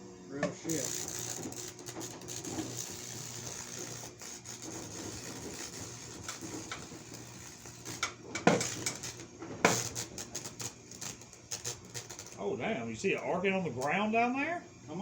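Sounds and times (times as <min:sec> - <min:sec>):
electrical hum: 0:00.0 - 0:15.0
sharp electrical snaps: 0:00.6 - 0:14.1
electric arc fizzing crackle: 0:00.6 - 0:14.6.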